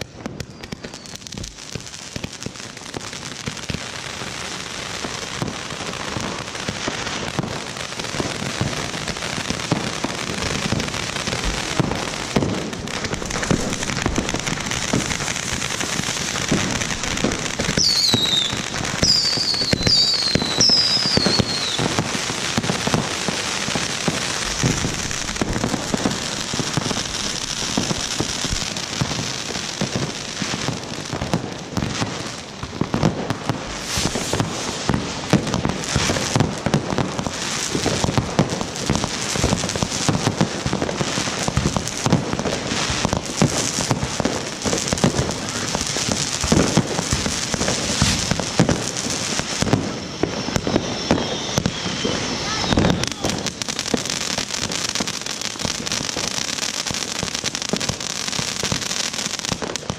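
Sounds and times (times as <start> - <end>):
falling firework whistles: 0.0 - 2.6, 5.0 - 59.9
firework fountains hissing: 0.0 - 59.9
fireworks crackles and pops: 0.0 - 59.9.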